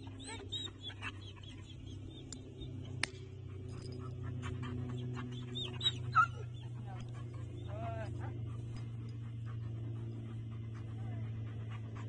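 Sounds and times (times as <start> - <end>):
small birds chirping: 0.0 - 3.3, 4.0 - 11.2
low hum: 0.0 - 12.0.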